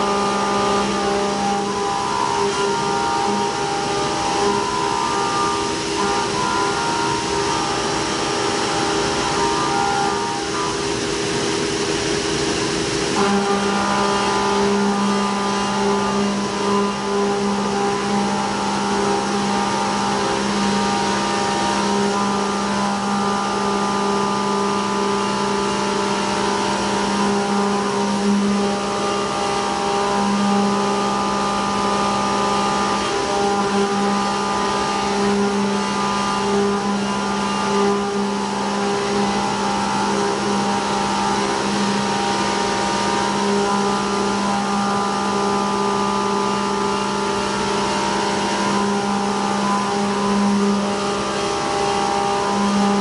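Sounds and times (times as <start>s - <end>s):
milling machine cutting hum: 0.0s - 53.0s.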